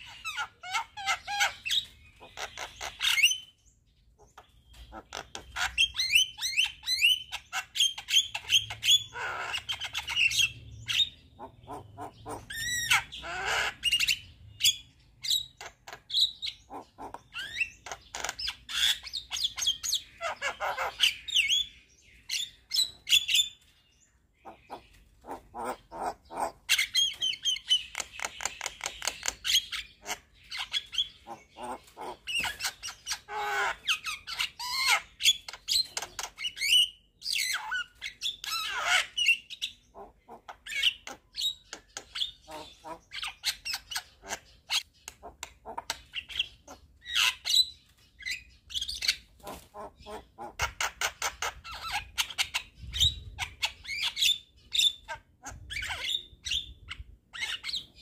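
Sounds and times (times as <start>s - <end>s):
myna bird singing: 0.0s - 58.0s.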